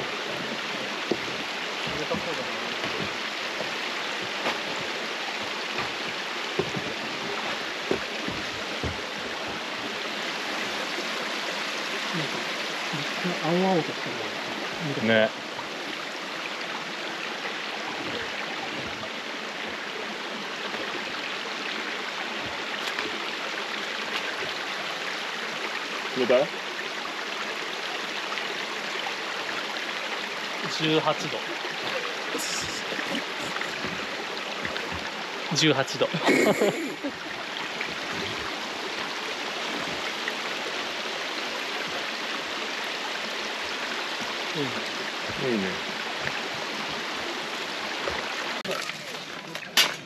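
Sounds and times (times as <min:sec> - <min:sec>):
stream rushing over stones: 0:00.0 - 0:50.0.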